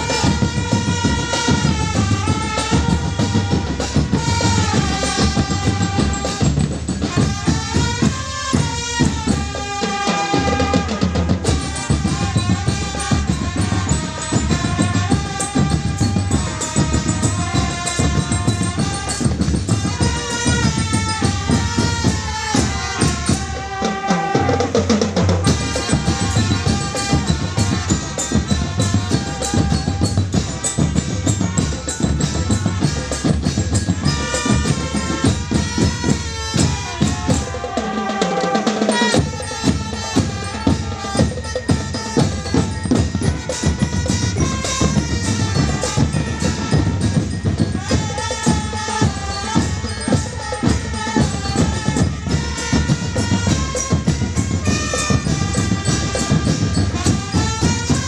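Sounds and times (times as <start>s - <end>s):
bass drums and snare drums: 0.0s - 58.0s
trumpets and brass melody: 0.0s - 58.0s.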